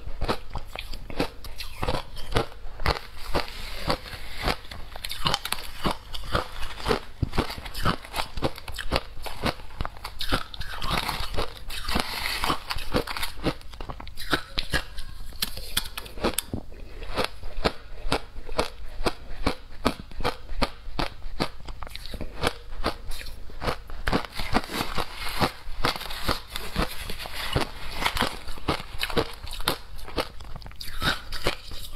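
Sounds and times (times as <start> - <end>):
crunching ice being chewed: 0.1 - 31.9.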